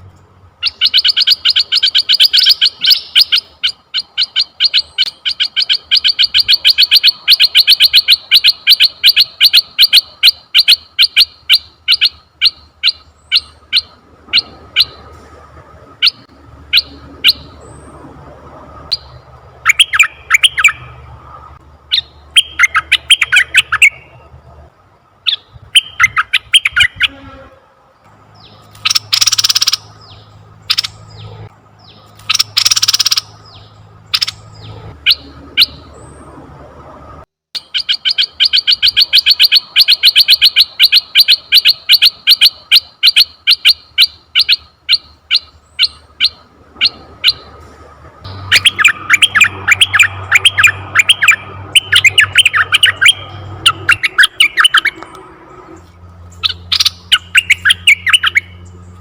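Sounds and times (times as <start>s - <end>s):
bird chirping: 0.0s - 15.3s, 15.9s - 18.2s, 18.8s - 24.4s, 25.2s - 27.4s, 28.0s - 36.4s, 37.6s - 47.7s, 48.3s - 59.0s
harsh rasping bird calls: 0.6s - 15.3s, 15.9s - 18.1s, 18.8s - 24.3s, 25.2s - 27.6s, 28.3s - 36.3s, 37.6s - 47.6s, 48.2s - 59.0s.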